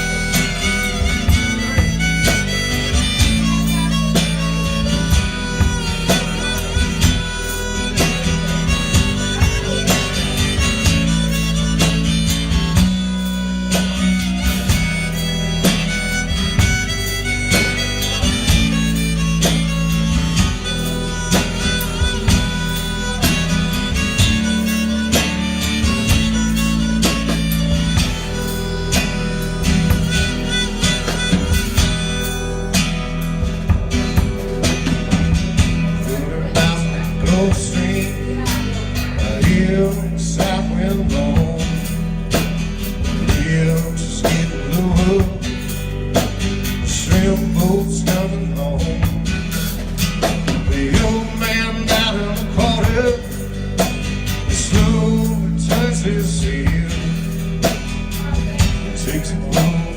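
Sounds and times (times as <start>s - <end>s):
harmonica lead: 0.0s - 59.9s
steady bass line: 0.0s - 59.9s
strummed guitar: 0.0s - 59.9s.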